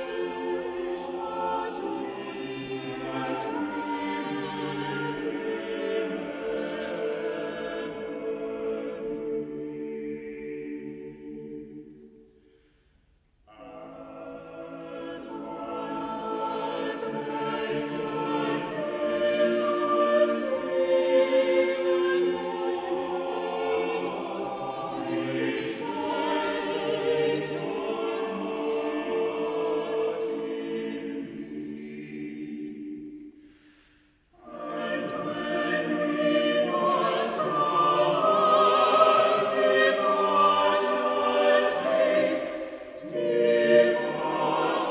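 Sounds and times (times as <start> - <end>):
church choir singing: 0.0 - 12.6, 13.4 - 44.9.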